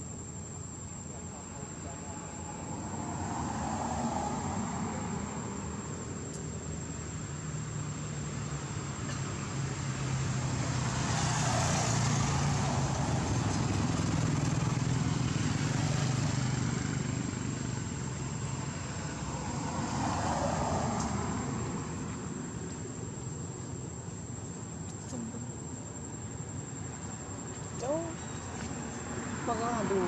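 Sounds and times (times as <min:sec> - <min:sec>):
passing traffic: 0:00.0 - 0:30.0.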